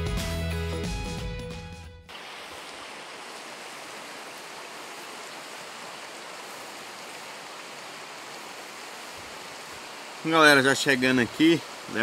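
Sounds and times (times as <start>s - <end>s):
river water rushing: 2.1s - 12.0s.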